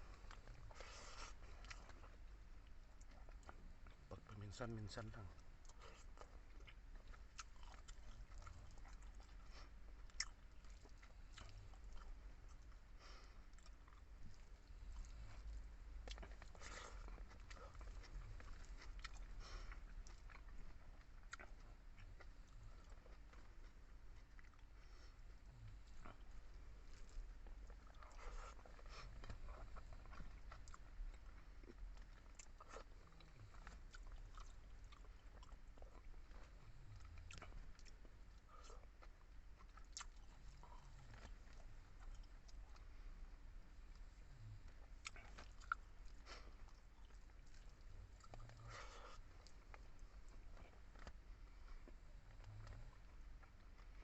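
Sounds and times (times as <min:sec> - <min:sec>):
chewing with wet mouth clicks: 0:00.0 - 0:43.0, 0:43.7 - 0:54.0.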